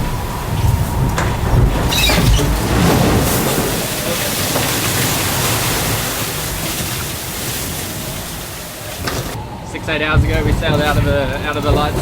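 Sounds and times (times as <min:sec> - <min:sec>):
rushing water: 0:00.0 - 0:12.0
wind noise: 0:00.0 - 0:12.0.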